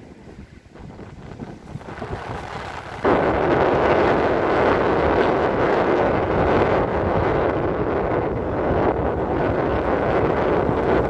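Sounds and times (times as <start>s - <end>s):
beach surf rushing: 0.0s - 11.0s
wind on microphone: 0.0s - 11.0s.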